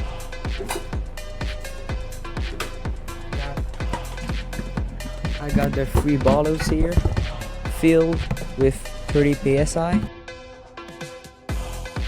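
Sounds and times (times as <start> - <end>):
electronic music with kick drum: 0.0 - 10.2.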